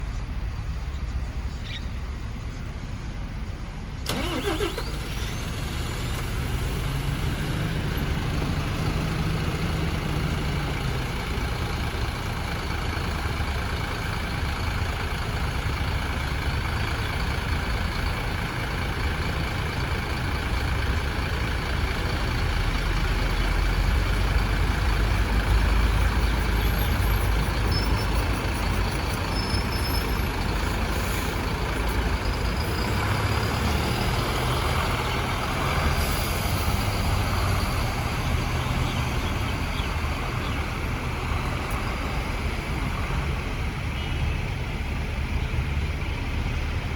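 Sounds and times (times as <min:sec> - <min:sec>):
bus diesel engine: 0:00.0 - 0:46.9.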